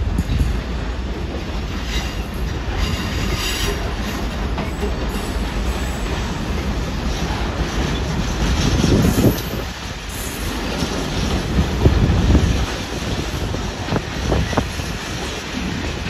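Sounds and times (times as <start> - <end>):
freight train wagons rumbling: 0.0 - 16.0.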